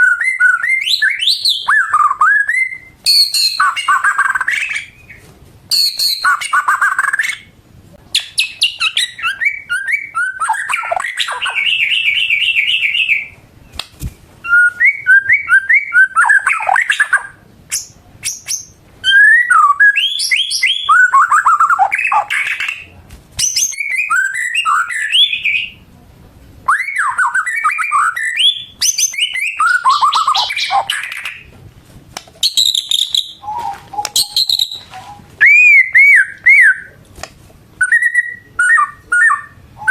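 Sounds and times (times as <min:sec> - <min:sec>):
songbird whistling and trilling: 0:00.0 - 0:07.5, 0:08.1 - 0:13.8, 0:14.4 - 0:25.8, 0:26.7 - 0:31.5, 0:32.4 - 0:37.0, 0:37.8 - 0:39.9.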